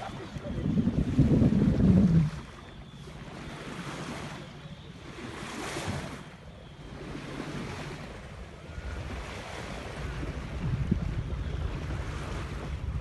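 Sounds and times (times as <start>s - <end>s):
sea water washing along hull: 0.0s - 13.0s
wind buffeting microphone: 0.0s - 13.0s.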